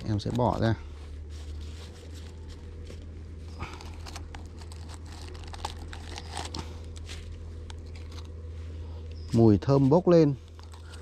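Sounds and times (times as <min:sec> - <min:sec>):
leaves rustling and crinkling: 0:00.0 - 0:11.0.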